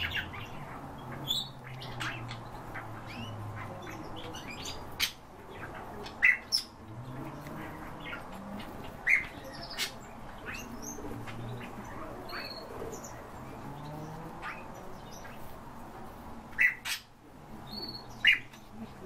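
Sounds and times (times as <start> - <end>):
loud sharp bird calls: 0.0 - 15.6, 16.4 - 18.8
small birds chirping: 0.0 - 19.0.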